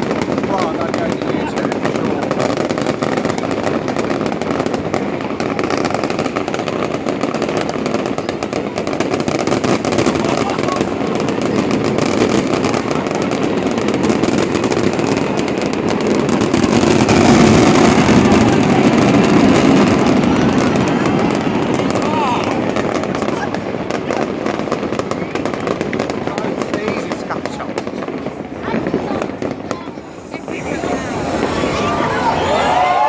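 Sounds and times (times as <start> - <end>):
fireworks crackling and banging: 0.0 - 33.0.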